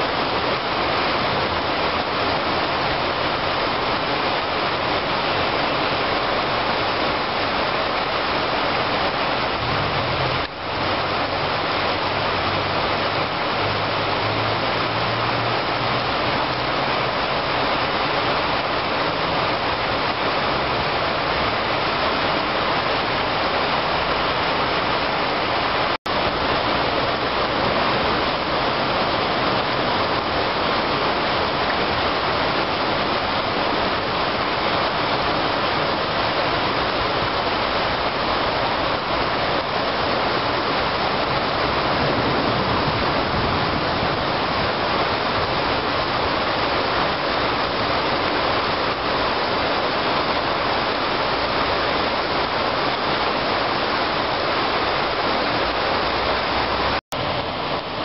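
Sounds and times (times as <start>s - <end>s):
heavy rain on rooftops: 0.0s - 58.0s.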